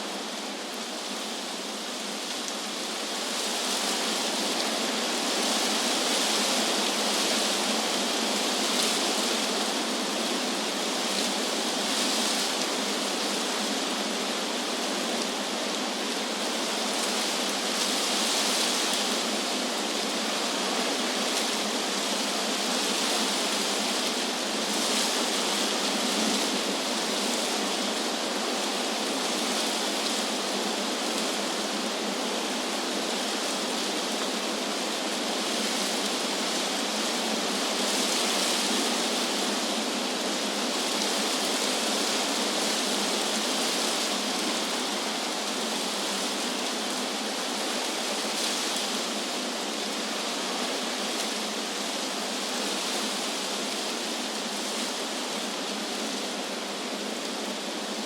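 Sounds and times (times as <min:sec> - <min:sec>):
wind rustling tree leaves: 0:00.0 - 0:58.0.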